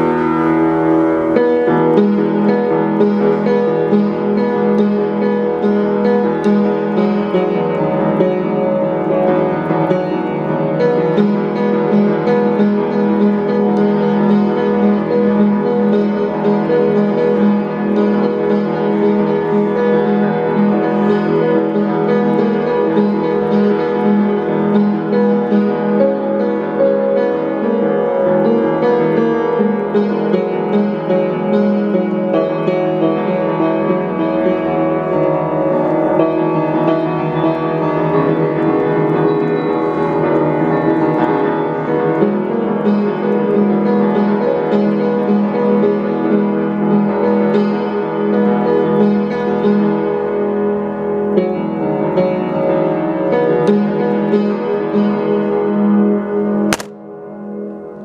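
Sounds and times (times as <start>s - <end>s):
piano piece: 0.0s - 58.0s.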